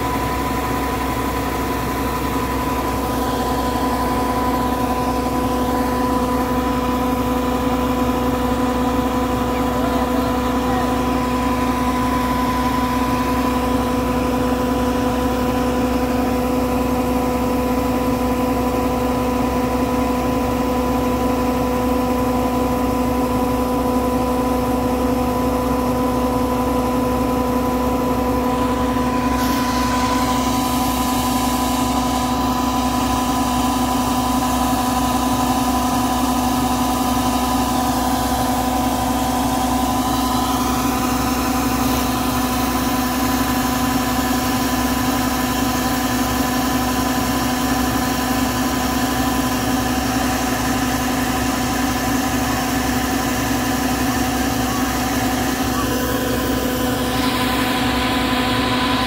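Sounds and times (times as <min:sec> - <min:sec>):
combine harvester humming: 0:00.0 - 0:59.0.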